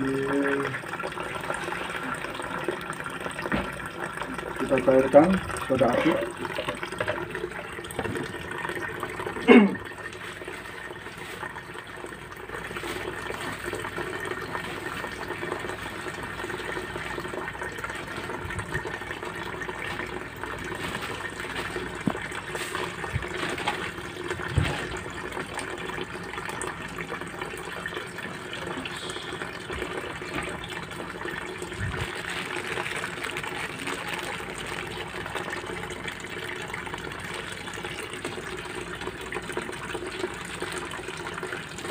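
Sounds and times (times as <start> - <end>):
water running: 0.0 - 41.9.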